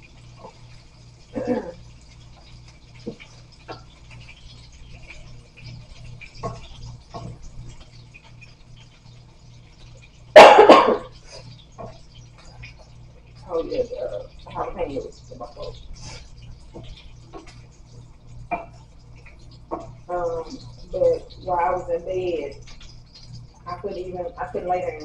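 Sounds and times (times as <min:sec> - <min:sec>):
faint low pulsing hum: 0:00.0 - 0:25.0.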